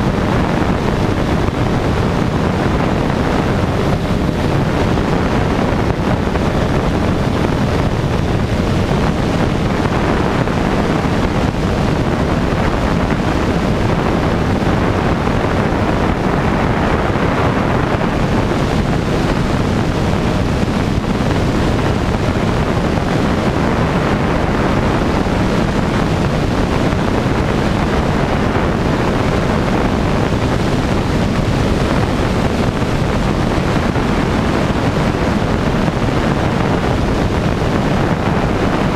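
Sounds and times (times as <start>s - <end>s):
propeller engine drone: 0.0s - 38.9s
wind rush on microphone: 0.0s - 38.9s.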